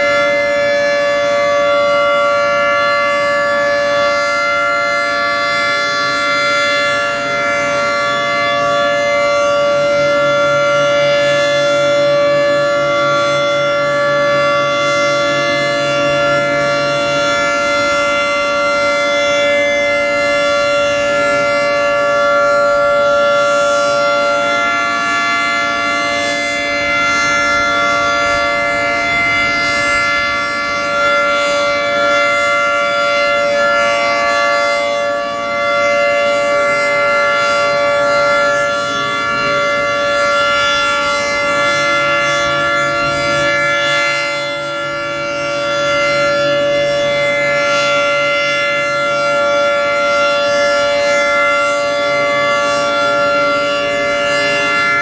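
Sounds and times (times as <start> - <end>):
warning siren sounding a chord: 0.0 - 55.0.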